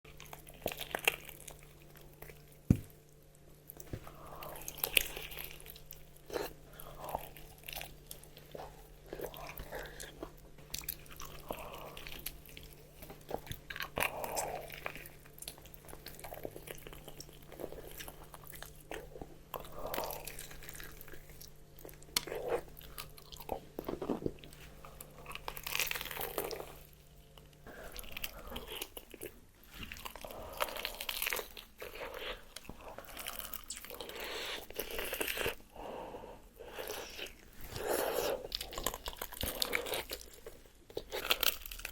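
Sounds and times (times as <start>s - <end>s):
crunchy bites and chewing: 3.8s - 35.6s, 36.7s - 41.9s.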